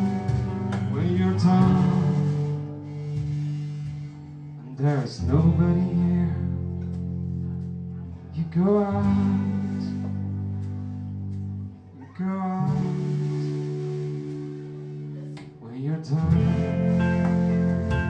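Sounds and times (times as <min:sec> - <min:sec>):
guitar chords: 0:00.0 - 0:18.0.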